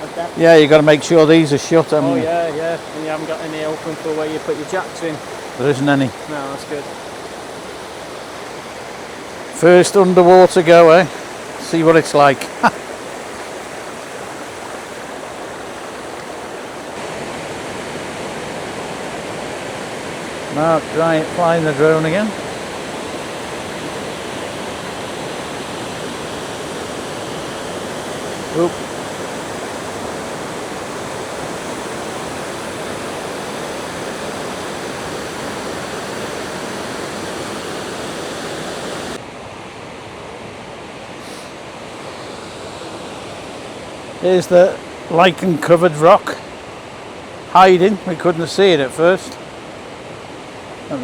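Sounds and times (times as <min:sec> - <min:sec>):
mountain stream rushing: 0:00.0 - 0:51.0.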